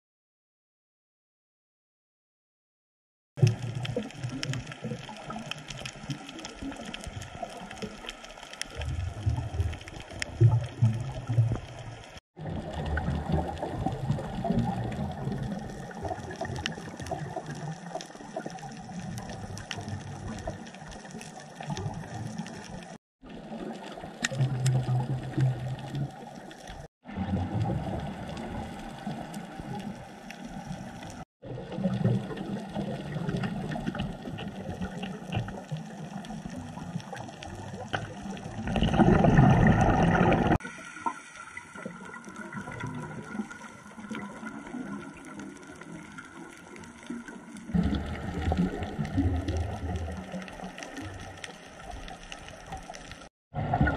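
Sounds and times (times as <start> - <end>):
fine crackle of clicks: 3.4 - 26.9, 27.6 - 39.0, 40.6 - 53.3
scuba bubbles underwater: 3.4 - 53.9.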